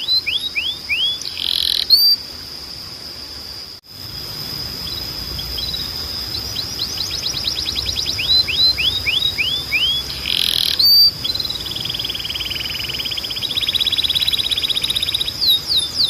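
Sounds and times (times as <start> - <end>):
canary singing: 0.0 - 2.2, 4.0 - 16.0.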